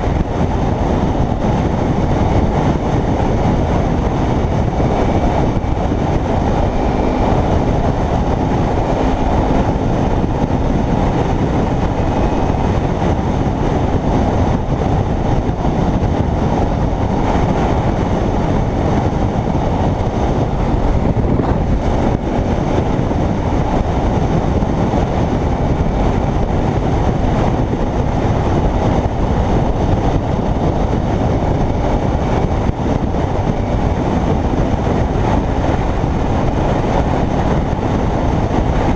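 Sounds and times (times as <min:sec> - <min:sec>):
motorcycle engine running: 0:00.0 - 0:38.9
road noise: 0:00.0 - 0:38.9
wind rush: 0:00.0 - 0:38.9.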